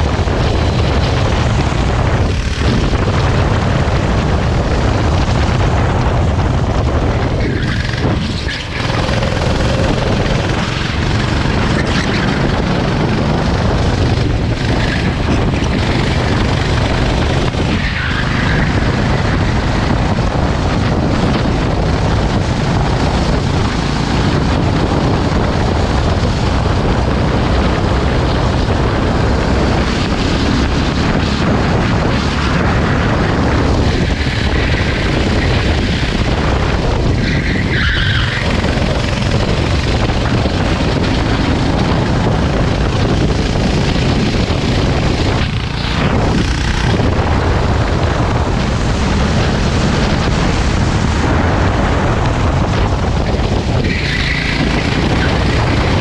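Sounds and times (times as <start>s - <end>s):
go-kart engine running hard: 0.0s - 56.0s
wind and road noise: 0.0s - 56.0s.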